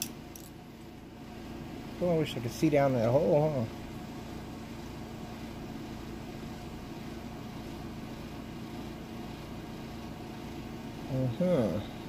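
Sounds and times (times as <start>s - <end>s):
room noise hum and hiss: 0.0s - 12.0s.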